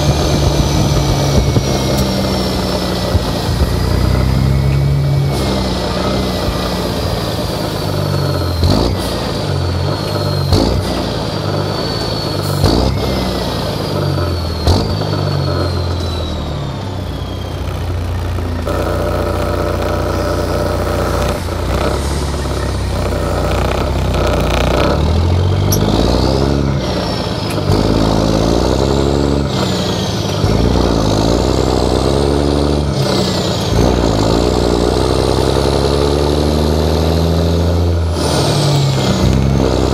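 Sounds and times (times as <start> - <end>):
diesel truck engine: 0.0 - 39.9.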